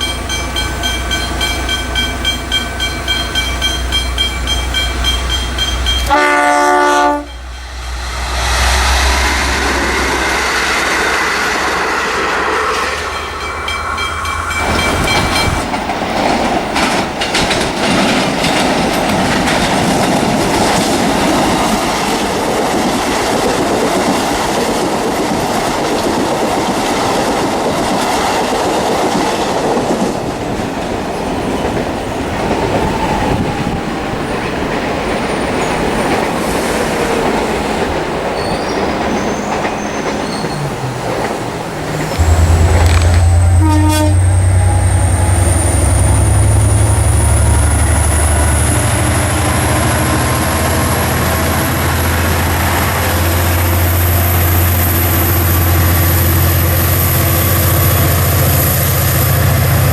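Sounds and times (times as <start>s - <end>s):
train wheels clattering on track: 0.0s - 59.9s.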